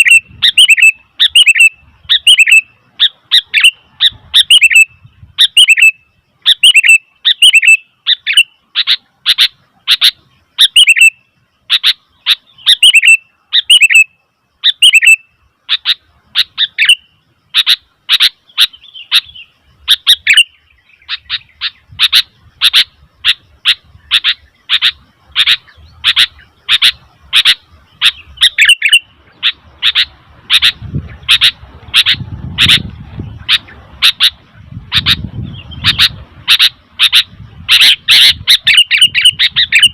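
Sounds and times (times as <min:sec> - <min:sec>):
bird chirping sharply: 0:00.0 - 0:39.9.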